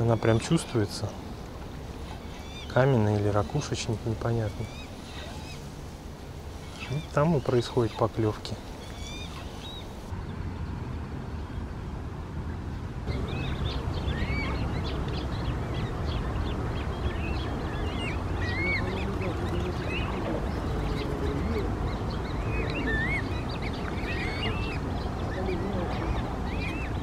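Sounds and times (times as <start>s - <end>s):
waterbirds calling: 0.0s - 12.0s, 12.6s - 27.0s.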